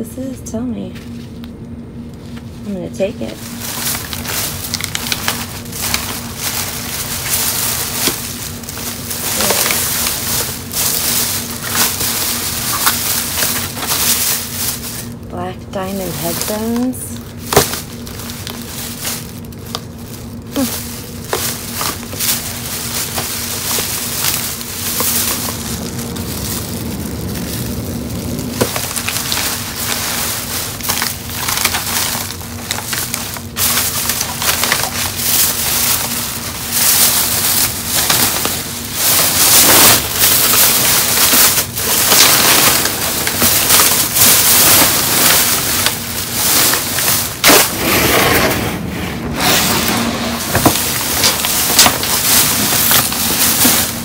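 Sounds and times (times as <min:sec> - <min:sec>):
plastic bags rustling: 0:00.8 - 0:54.0
boxes shifting: 0:03.2 - 0:15.2, 0:15.8 - 0:54.0.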